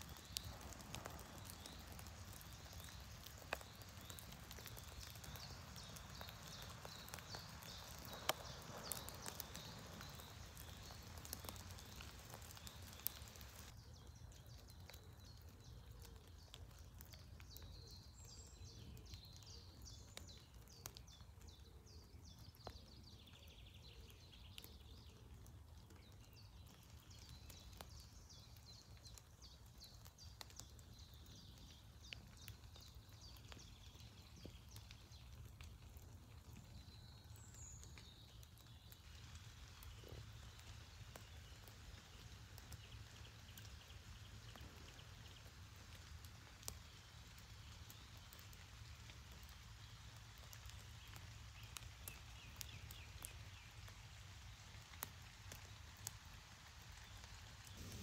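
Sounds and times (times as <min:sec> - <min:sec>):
raindrop ticks: 0:00.0 - 0:21.6, 0:22.2 - 0:58.0.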